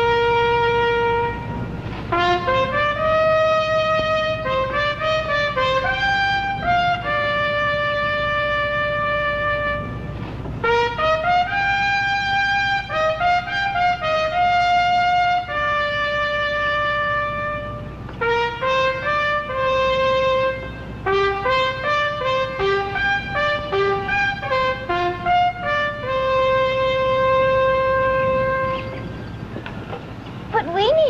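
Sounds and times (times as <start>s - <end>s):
solo trumpet melody: 0.0s - 29.3s.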